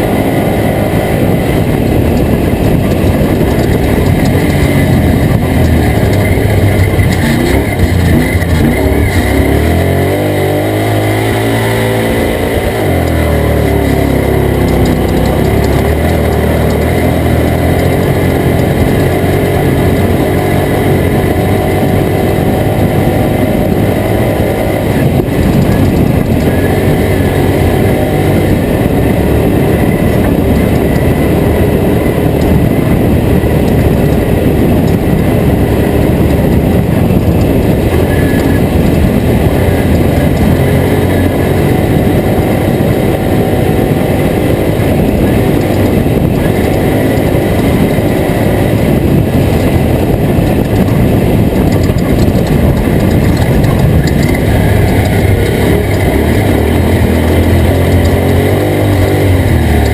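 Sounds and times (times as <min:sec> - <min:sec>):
rattling jarring noise: 0:00.0 - 0:59.9
truck engine driving hard: 0:00.0 - 0:59.9.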